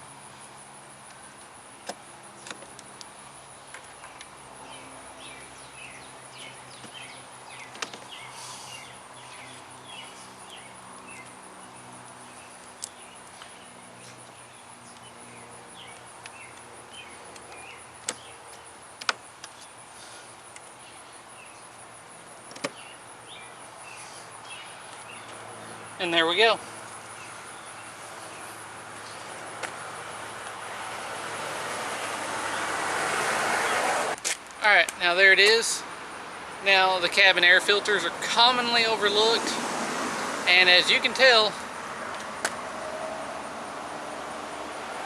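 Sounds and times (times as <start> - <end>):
faint insect chirping: 0.0 - 45.0
steady background hiss: 0.0 - 45.0.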